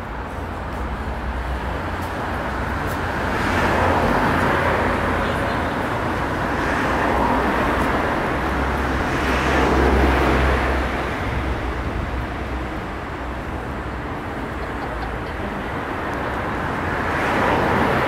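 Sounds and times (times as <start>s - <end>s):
street traffic noise: 0.0s - 18.0s
vehicle passing close by: 2.6s - 18.0s.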